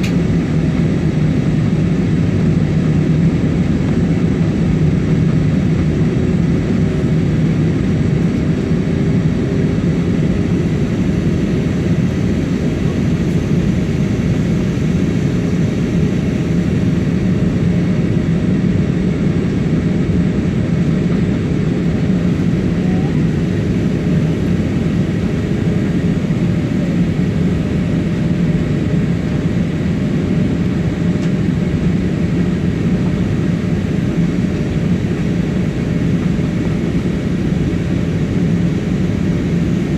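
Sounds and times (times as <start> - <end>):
jet engines and airflow roaring: 0.0 - 39.9
steady low hum: 0.0 - 39.9.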